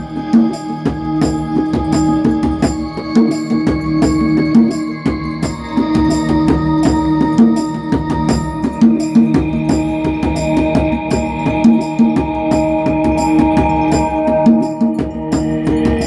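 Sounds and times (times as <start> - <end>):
ambient keyboard chords: 0.0 - 16.0
djembe played by hand: 0.0 - 16.0.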